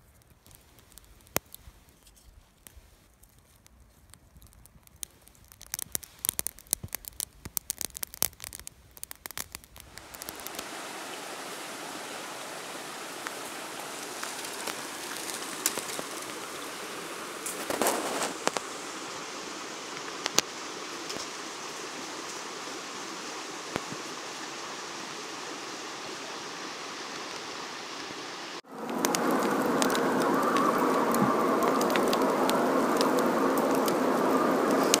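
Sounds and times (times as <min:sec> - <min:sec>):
wood fire crackling and popping: 0:00.0 - 0:27.6, 0:28.6 - 0:35.0
steady hiss: 0:00.0 - 0:35.0.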